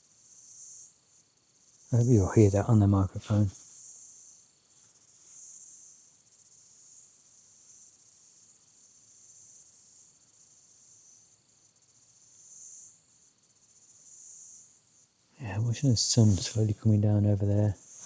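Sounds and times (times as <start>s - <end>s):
insect chorus chirring: 0.3s - 18.0s.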